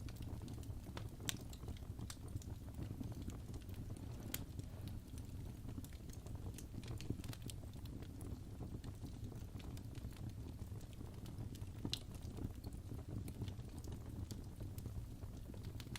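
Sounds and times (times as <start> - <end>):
fireplace fire crackling: 0.0 - 15.9.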